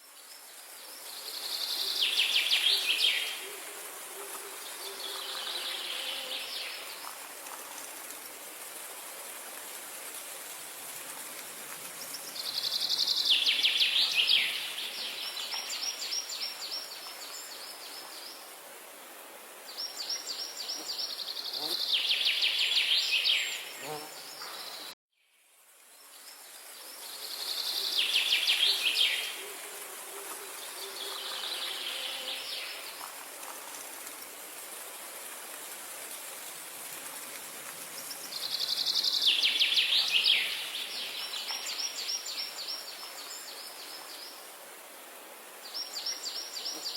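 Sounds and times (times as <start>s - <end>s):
outdoor ambience hiss: 0.0s - 46.9s.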